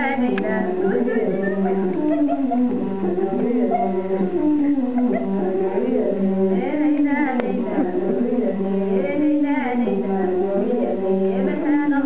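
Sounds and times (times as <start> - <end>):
bowed fiddle: 0.0 - 12.0
women singing in a group: 0.0 - 12.0.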